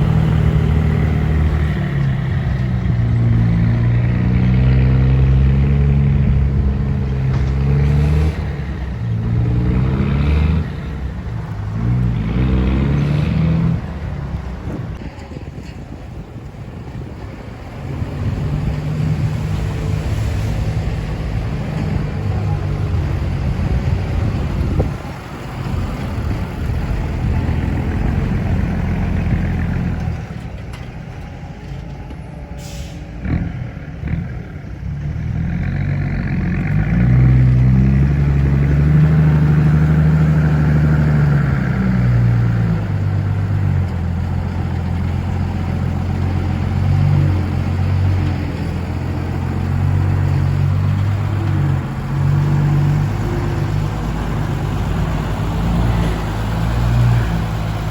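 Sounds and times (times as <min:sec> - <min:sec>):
diesel trucks driving by: 0:00.0 - 0:57.9.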